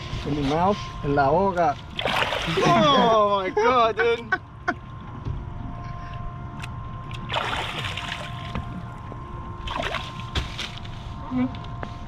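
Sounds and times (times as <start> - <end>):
idling boat engine hum: 0.0 - 12.0.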